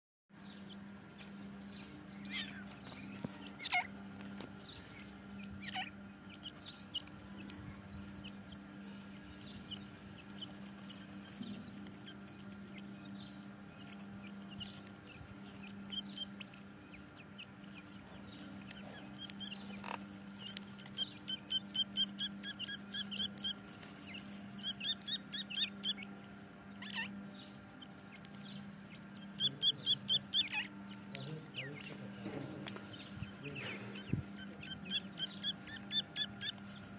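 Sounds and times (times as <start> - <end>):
steady low hum: 0.3 - 36.9
chicks peeping: 0.4 - 36.9.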